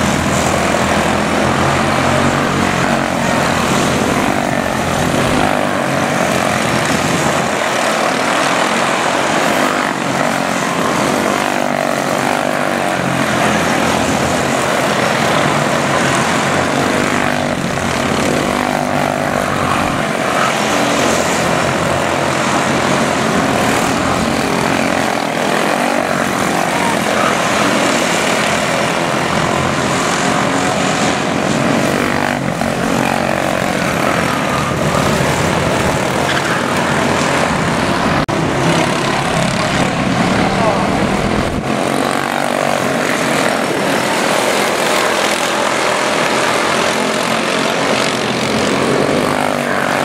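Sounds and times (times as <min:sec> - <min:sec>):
race car engines buzzing: 0:00.0 - 0:50.0.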